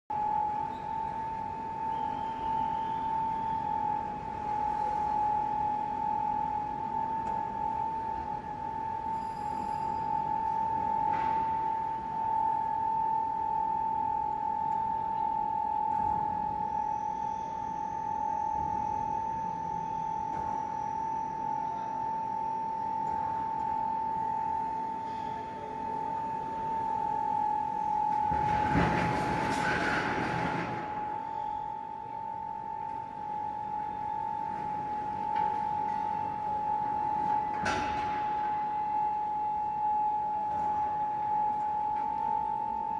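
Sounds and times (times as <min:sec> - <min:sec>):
high-pitched machinery whine: 0:00.1 - 0:42.9
industrial background noise: 0:00.1 - 0:42.9.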